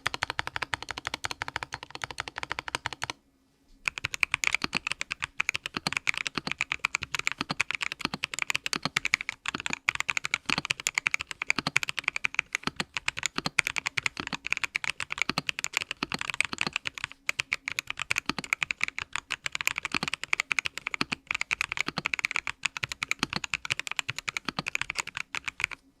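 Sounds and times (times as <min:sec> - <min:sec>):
fast typing on mechanical keyboard: 0:00.0 - 0:03.2, 0:03.9 - 0:25.8.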